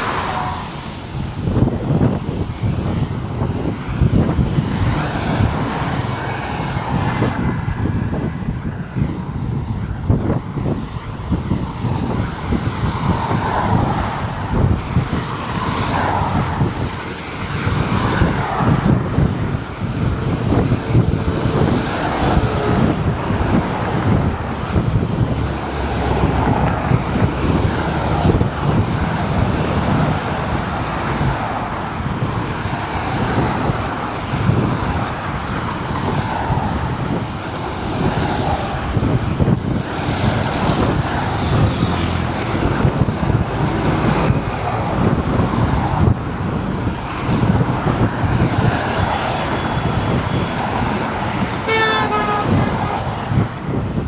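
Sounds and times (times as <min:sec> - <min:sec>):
highway traffic: 0:00.0 - 0:54.0.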